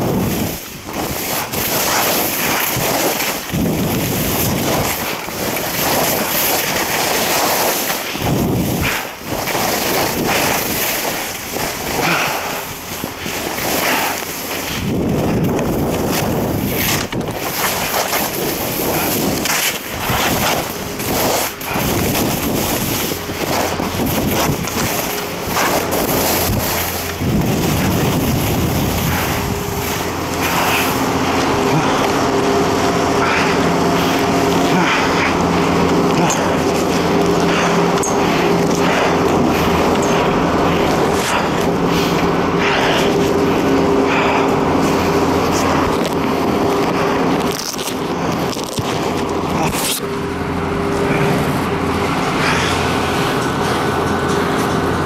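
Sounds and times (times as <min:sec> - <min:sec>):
skis scraping on snow: 0:00.0 - 0:55.0
steady multi-tone hum: 0:00.0 - 0:55.0
wind buffeting microphone: 0:00.0 - 0:55.0.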